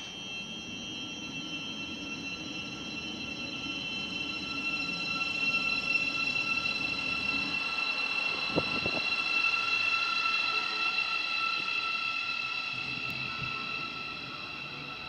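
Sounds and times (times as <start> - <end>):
train low rumble: 0.0 - 15.0
train whine: 0.0 - 15.0.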